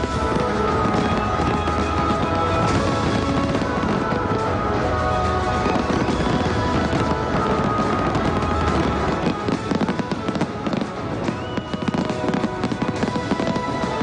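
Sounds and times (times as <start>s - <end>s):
fireworks bangs and crackles: 0.0s - 14.0s
loud music: 0.0s - 14.0s.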